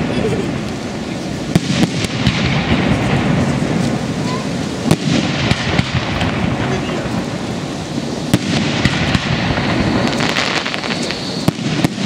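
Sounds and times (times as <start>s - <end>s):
fireworks bursting: 0.0s - 12.0s
sharp firework bangs: 0.0s - 12.0s.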